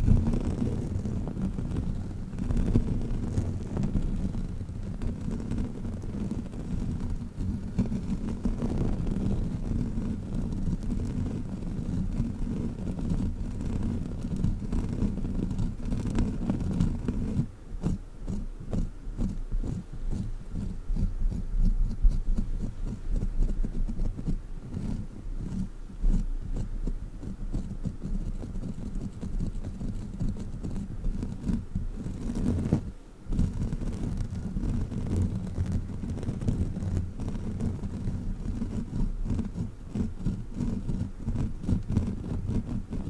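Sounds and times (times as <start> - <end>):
dull rubbing rumble: 0.0 - 43.0.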